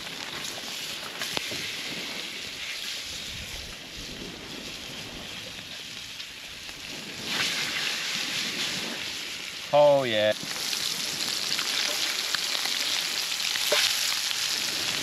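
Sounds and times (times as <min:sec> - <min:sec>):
fish sizzling in a frying pan: 0:00.0 - 0:15.0
wind on microphone: 0:00.0 - 0:15.0.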